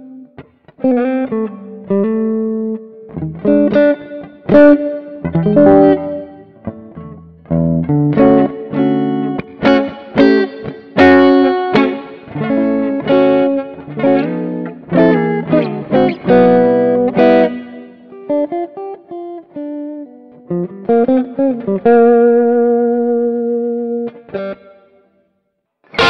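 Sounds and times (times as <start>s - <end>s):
clean electric guitar: 0.0s - 25.2s, 25.8s - 26.0s.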